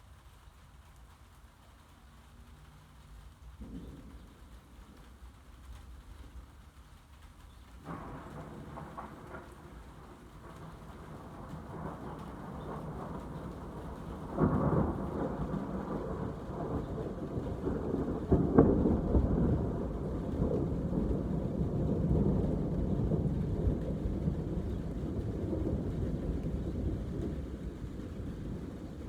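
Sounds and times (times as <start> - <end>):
steady rain: 0.0 - 29.0
thunder clap and rumble: 3.5 - 6.7, 7.7 - 29.0.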